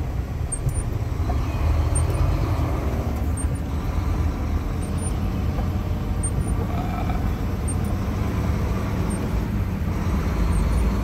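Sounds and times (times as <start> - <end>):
truck engine rumble: 0.0 - 11.0
wet road noise: 0.0 - 11.0.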